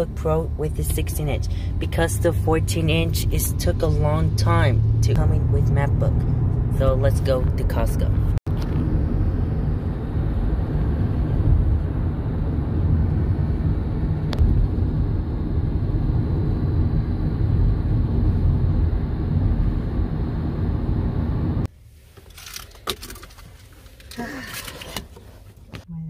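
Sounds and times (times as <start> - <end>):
road and engine rumble in car: 0.0 - 26.0.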